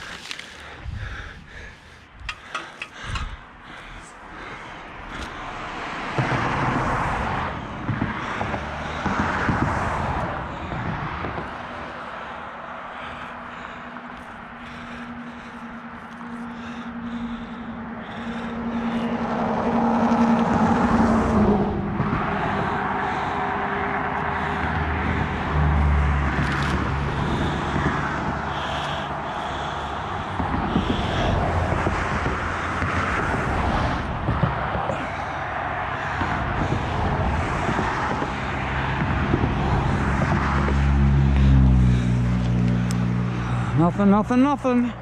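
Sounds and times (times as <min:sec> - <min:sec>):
car engine hum approaching: 0:00.0 - 0:45.0
motor vehicle passing by: 0:02.4 - 0:45.0.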